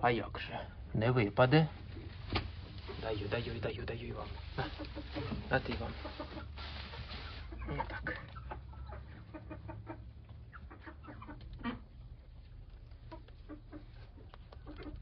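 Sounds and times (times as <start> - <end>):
chickens clucking: 0.1 - 15.0.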